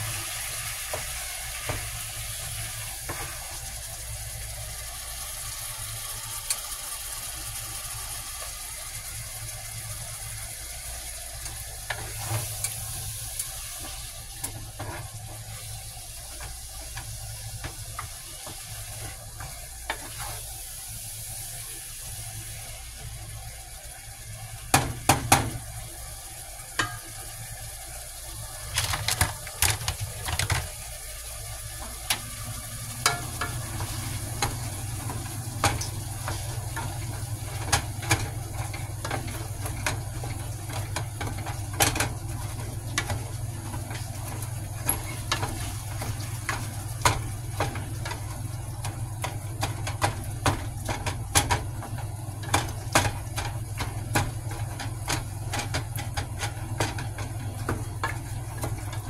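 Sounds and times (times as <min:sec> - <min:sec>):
food sizzling in a pot: 0:00.0 - 0:59.0.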